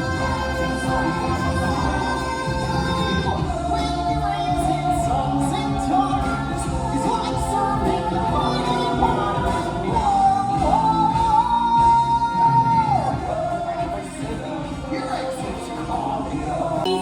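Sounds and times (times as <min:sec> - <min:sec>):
band backing music: 0:00.0 - 0:17.0
person singing: 0:00.0 - 0:17.0.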